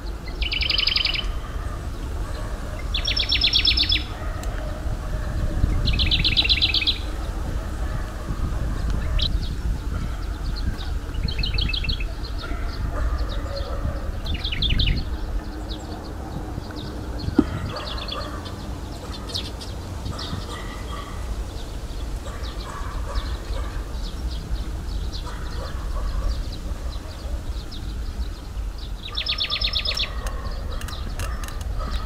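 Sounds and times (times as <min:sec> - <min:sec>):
songbirds trilling: 0:00.0 - 0:32.0
steady low rumble: 0:00.0 - 0:32.0.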